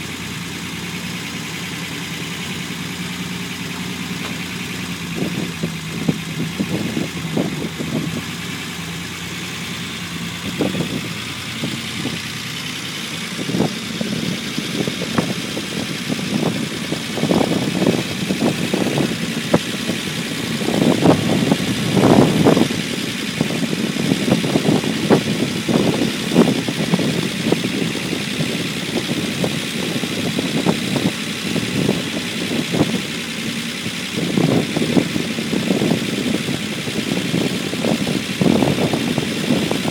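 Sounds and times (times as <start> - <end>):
petrol engine idling unevenly: 0.0 - 39.9.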